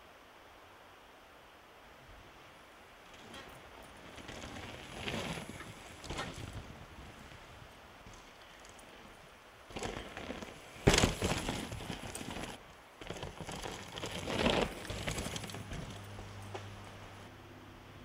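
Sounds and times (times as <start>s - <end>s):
bike tyres crunching on dirt: 2.4s - 17.3s.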